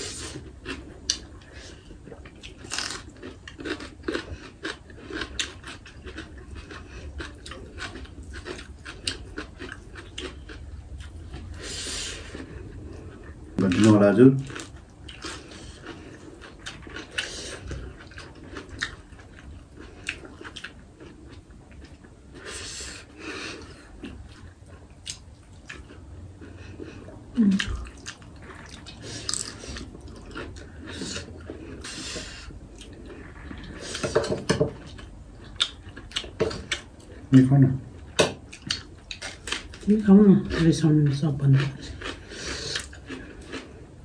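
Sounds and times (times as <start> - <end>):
people chewing and smacking: 0.0 - 44.0.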